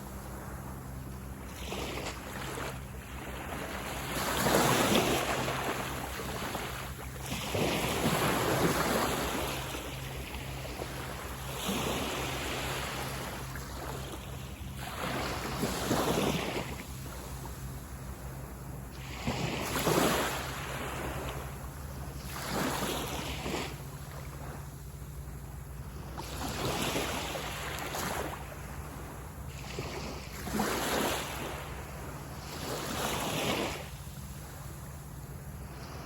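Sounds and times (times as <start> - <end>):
sea waves breaking on sand beach: 0.0 - 36.0.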